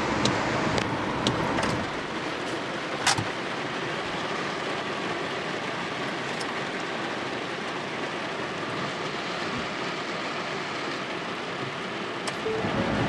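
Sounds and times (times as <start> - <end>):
heavy rain on hard surfaces: 0.0 - 13.0.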